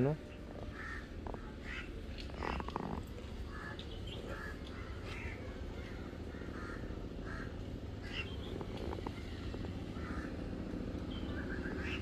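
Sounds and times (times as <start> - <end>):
low background rumble: 0.0 - 12.0
crows cawing: 0.6 - 10.8, 11.4 - 12.0.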